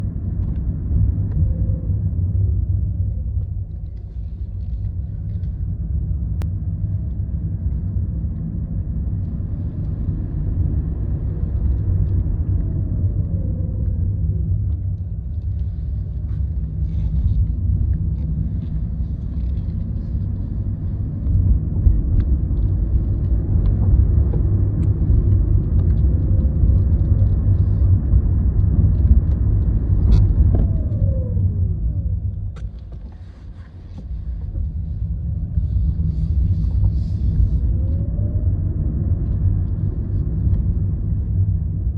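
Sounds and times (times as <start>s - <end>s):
car low rumble: 0.0s - 41.9s.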